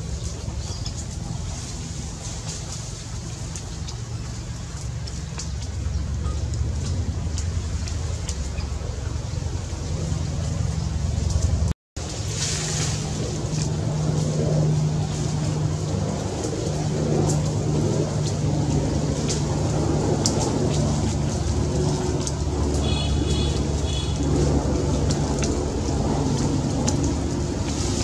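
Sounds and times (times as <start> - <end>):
low mechanical rumble and hum: 0.0 - 28.0.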